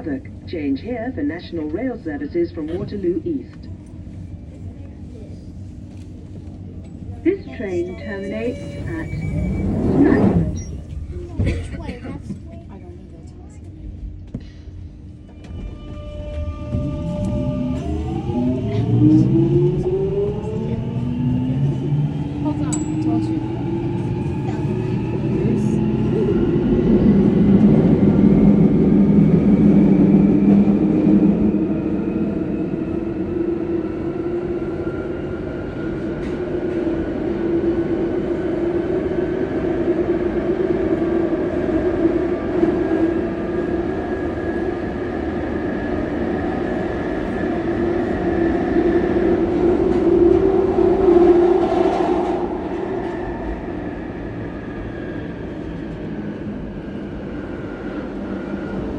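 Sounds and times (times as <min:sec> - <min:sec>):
wheel and rail rumble: 0:00.0 - 0:58.9.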